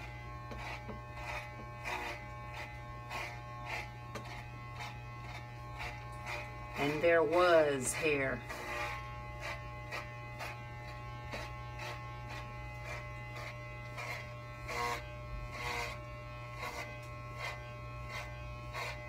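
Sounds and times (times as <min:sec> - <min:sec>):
clipper blades cutting hair: 0:00.0 - 0:19.0
electric hair clippers buzzing: 0:00.0 - 0:19.0.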